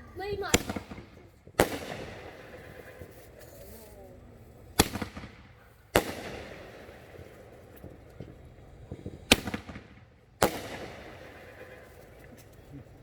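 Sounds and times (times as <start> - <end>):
fireworks exploding: 0.0 - 13.0.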